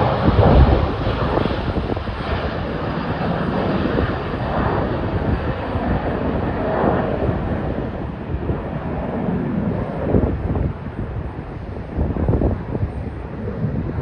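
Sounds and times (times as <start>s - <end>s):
jet airliner engines roaring: 0.0s - 14.0s
wind buffeting microphone: 0.0s - 14.0s.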